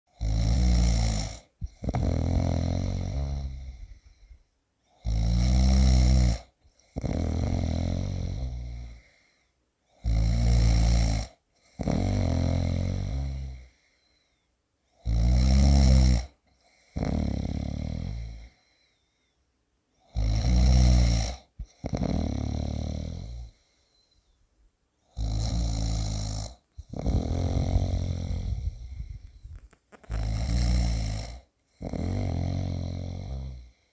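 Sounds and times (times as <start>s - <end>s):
person snoring: 0.1s - 13.9s, 15.0s - 19.0s, 20.0s - 24.1s, 25.0s - 33.9s.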